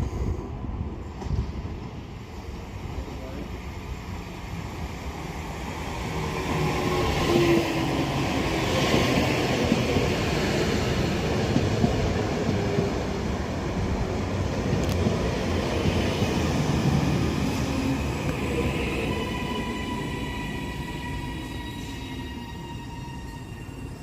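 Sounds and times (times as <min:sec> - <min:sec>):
electric train running and braking: 0:04.0 - 0:24.0.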